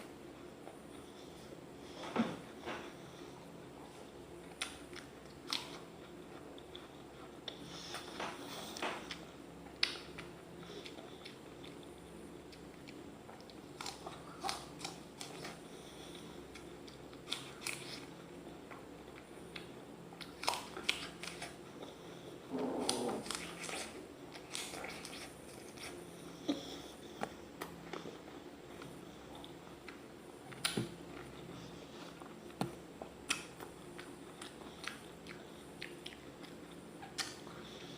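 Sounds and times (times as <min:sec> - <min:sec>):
apple being bitten and chewed: 0:04.4 - 0:11.9, 0:12.5 - 0:15.7, 0:16.5 - 0:21.8, 0:22.6 - 0:37.9.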